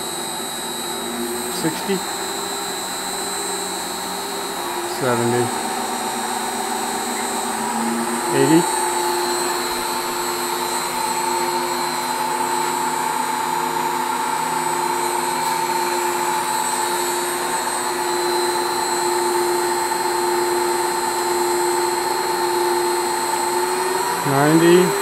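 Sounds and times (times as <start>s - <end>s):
high-pitched motor squeal: 0.0s - 25.0s
lathe motor and gear hum: 0.0s - 25.0s.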